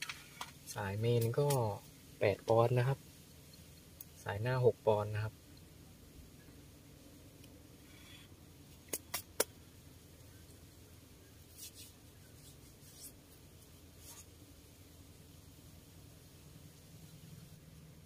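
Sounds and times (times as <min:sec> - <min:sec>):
low steady background noise: 0:00.0 - 0:18.0.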